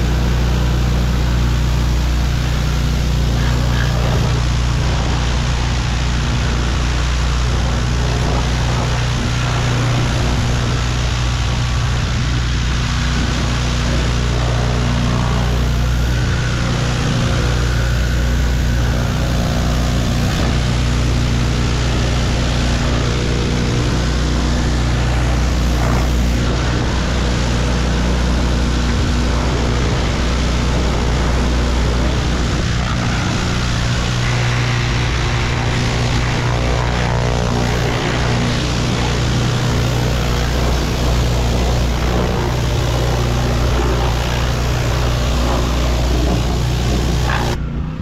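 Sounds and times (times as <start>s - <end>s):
high-pressure water spray hiss: 0.0s - 47.6s
small engine running: 0.0s - 48.0s.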